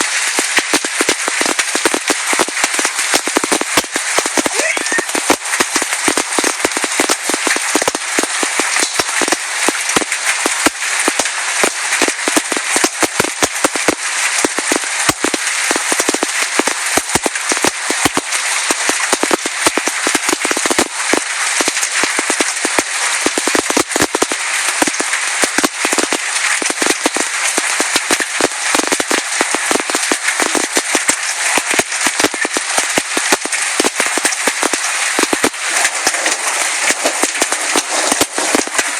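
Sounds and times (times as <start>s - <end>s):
downpour hiss: 0.0s - 38.9s
hailstones clattering: 0.0s - 38.9s.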